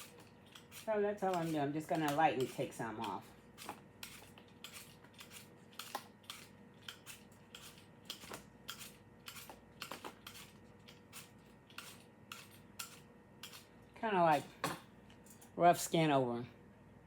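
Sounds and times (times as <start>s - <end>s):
knife shaving apple peel: 0.0s - 14.6s.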